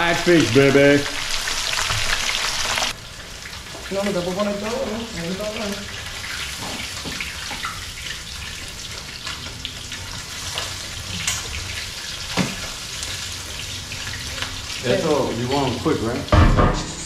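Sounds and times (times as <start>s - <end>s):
fish sizzling in oil: 0.0s - 16.4s.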